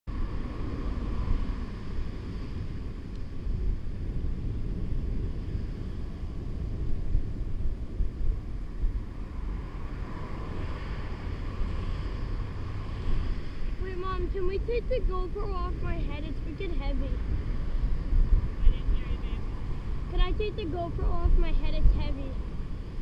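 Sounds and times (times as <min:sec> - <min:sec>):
wind buffeting camera microphone: 0:00.1 - 0:23.0.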